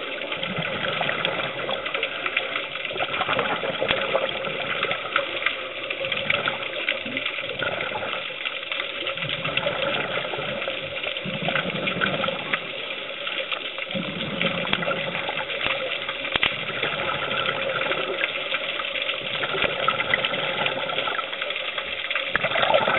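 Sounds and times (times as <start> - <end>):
crackling clicks: 0.0 - 22.9
regulator exhale bubbling: 0.0 - 22.9
underwater hiss and hum: 0.0 - 22.9.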